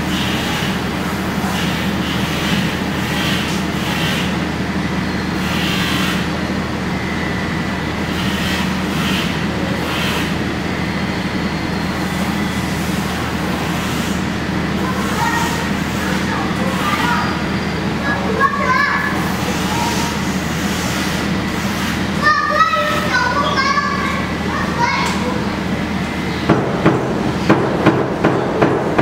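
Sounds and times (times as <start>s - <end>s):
machinery drone: 0.0s - 29.0s.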